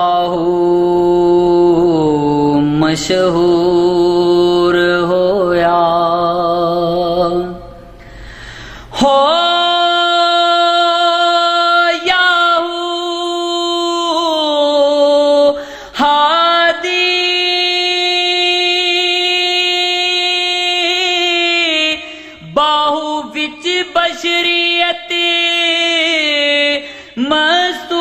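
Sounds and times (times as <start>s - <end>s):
man singing unaccompanied: 0.0s - 7.8s, 9.0s - 28.0s.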